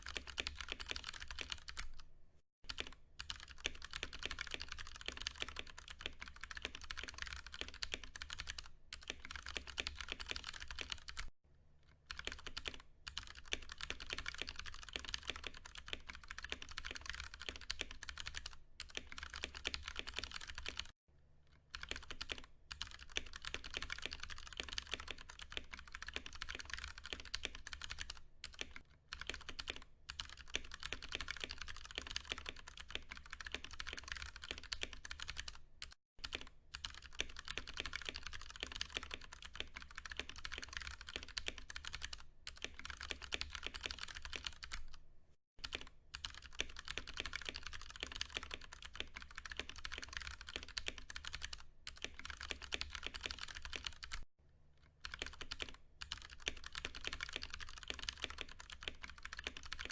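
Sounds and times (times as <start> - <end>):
fast typing on mechanical keyboard: 0.0 - 2.0, 2.7 - 11.3, 12.1 - 21.0, 21.7 - 45.0, 45.6 - 54.3, 55.0 - 59.9.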